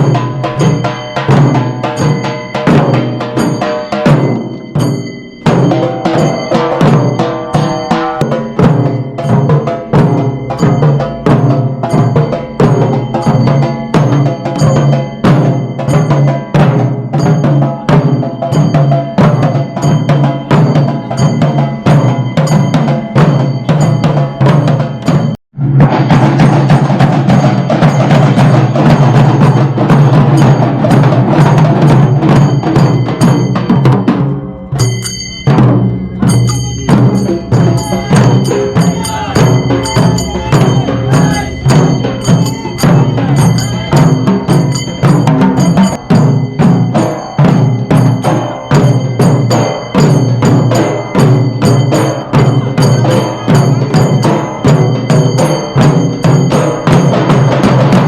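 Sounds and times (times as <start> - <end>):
rhythmic drumming and percussion: 0.0 - 58.0.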